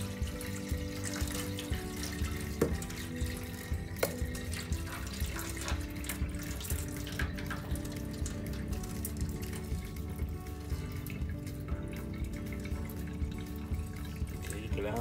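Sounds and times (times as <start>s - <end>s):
tap water running into sink: 0.0s - 15.0s
water splashing into strainer: 0.0s - 15.0s.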